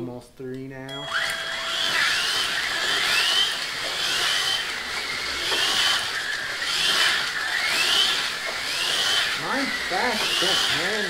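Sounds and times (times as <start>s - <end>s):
slot car motors whining: 0.9s - 11.0s.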